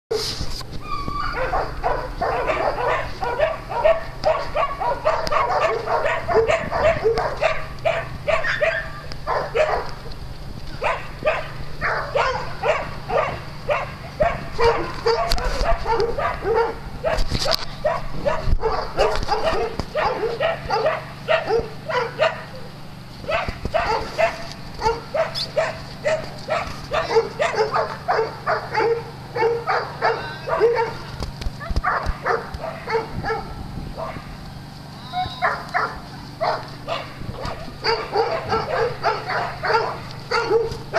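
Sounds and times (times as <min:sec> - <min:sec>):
small dogs barking: 0:01.0 - 0:10.1, 0:10.8 - 0:34.4, 0:35.0 - 0:40.9.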